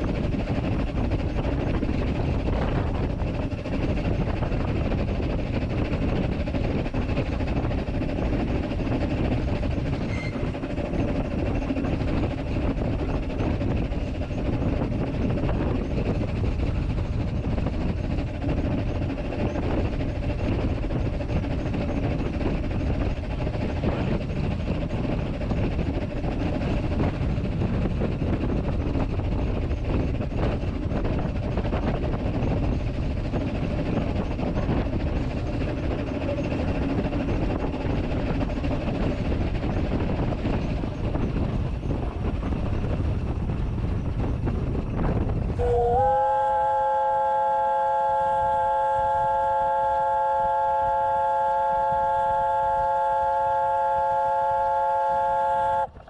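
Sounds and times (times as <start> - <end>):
steam locomotive rumble and clatter: 0.0 - 56.0.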